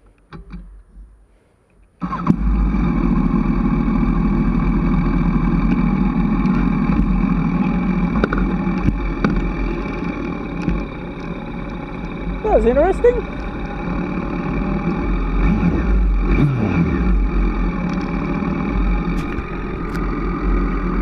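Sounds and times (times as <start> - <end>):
motorcycle engine running: 2.0 - 21.0.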